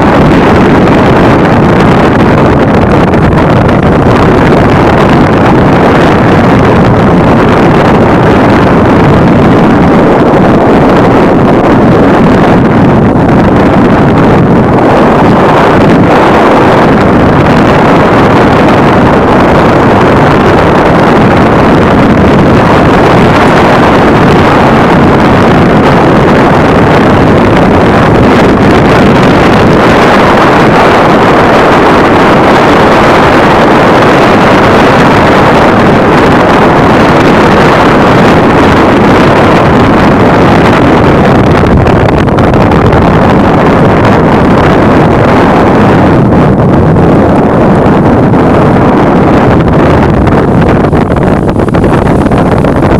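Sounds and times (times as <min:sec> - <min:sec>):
wind roar on microphone: 0:00.0 - 0:52.9.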